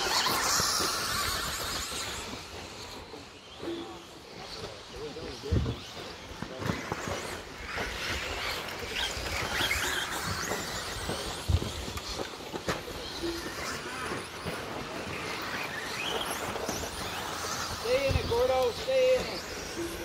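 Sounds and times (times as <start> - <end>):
toy truck motors whining: 0.0 - 20.0.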